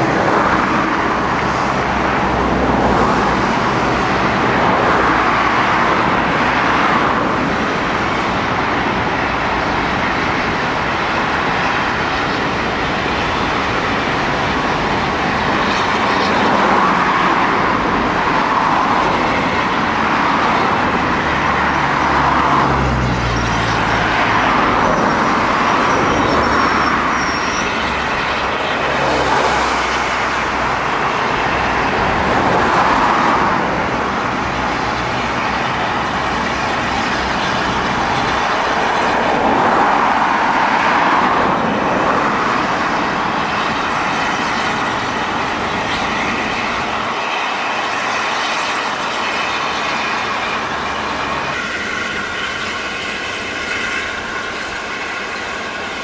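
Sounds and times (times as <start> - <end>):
cars passing on road: 0.0 - 56.0.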